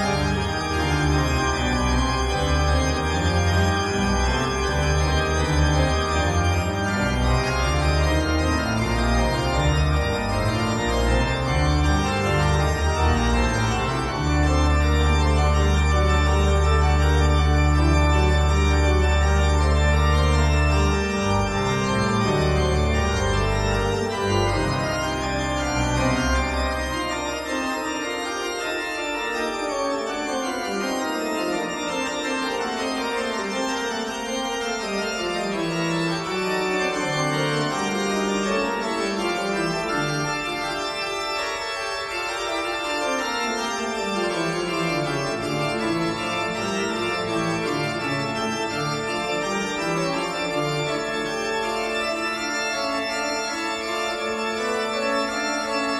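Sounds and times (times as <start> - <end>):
organ chords: 0.0 - 55.9.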